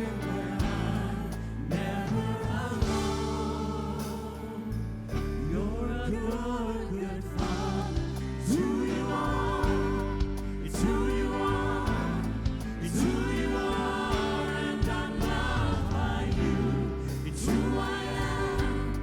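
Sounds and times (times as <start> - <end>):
steady drum beat: 0.0 - 4.4, 7.4 - 19.0
held bass notes: 0.0 - 19.0
voices singing: 0.0 - 19.0.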